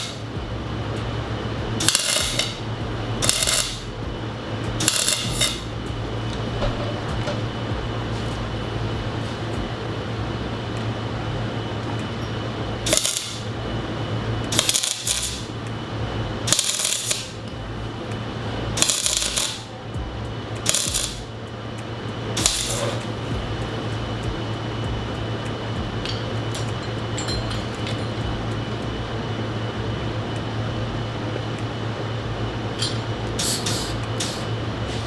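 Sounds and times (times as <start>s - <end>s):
arc welding crackling: 0.0s - 35.0s
steady low hum: 0.0s - 35.0s.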